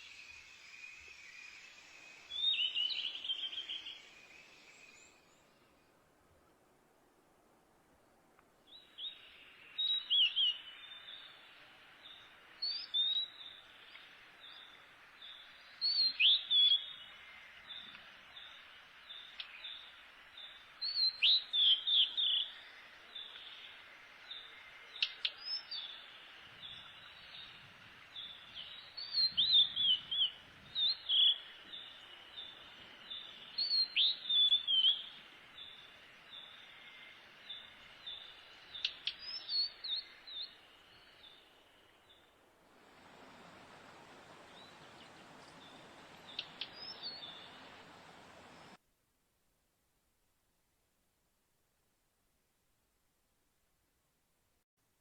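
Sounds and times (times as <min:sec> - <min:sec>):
songbird singing: 0:00.0 - 0:06.0, 0:08.0 - 0:48.8
high-pitched background hiss: 0:00.0 - 0:48.8.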